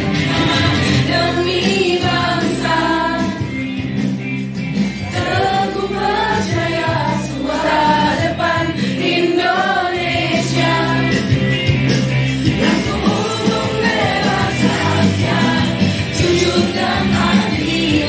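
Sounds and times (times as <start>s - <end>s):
choir singing: 0.0s - 3.5s, 5.0s - 11.3s, 12.5s - 18.0s
musical accompaniment: 0.0s - 18.0s.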